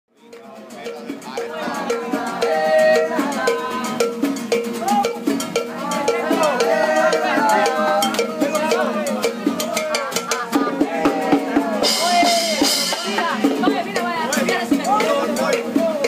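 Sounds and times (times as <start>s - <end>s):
cowbell beat: 0.1s - 16.0s
people singing together: 0.2s - 16.0s.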